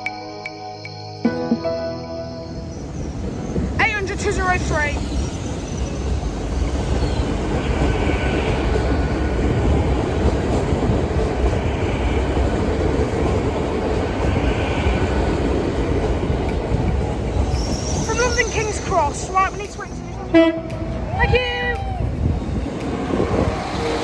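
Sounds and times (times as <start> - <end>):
train wheels rumbling on track: 2.5 - 24.0.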